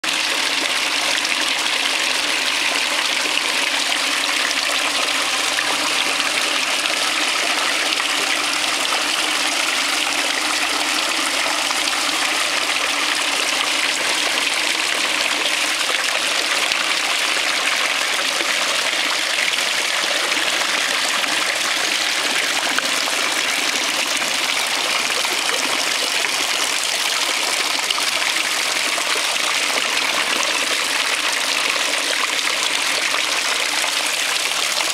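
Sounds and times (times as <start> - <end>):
fountain water splashing into basin: 0.0 - 34.9.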